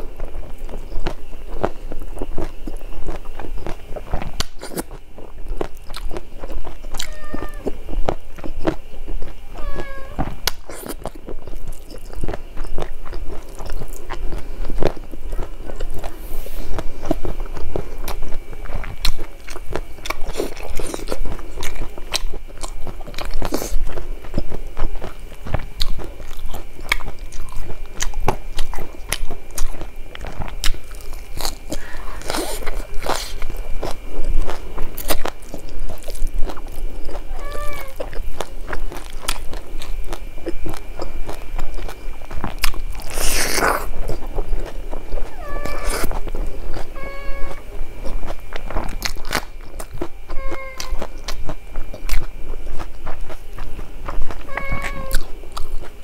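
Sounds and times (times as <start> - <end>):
person chewing with wet smacking: 0.0 - 56.0.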